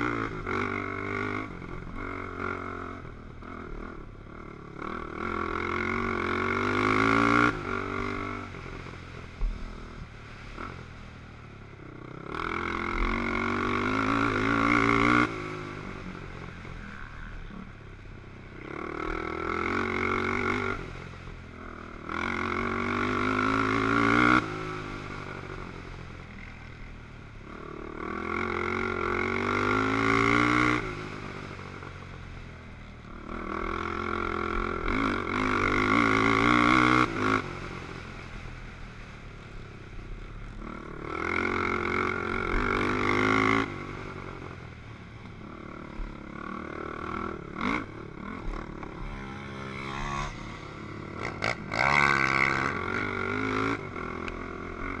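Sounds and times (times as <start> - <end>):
atv engine revving: 0.0 - 11.2, 11.8 - 55.0.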